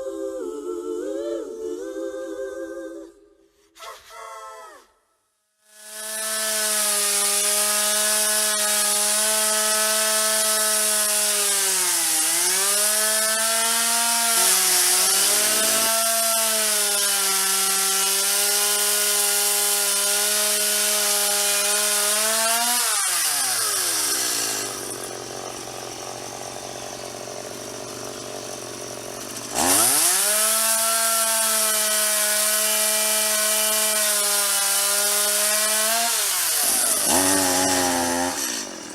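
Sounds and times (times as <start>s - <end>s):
chainsaw revving and cutting wood: 5.6s - 38.9s.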